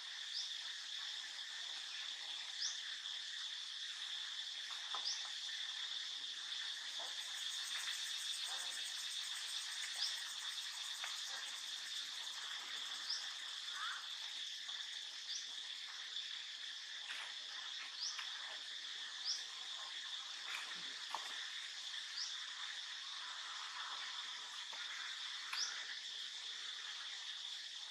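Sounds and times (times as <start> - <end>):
insect chorus drone: 0.0 - 27.9.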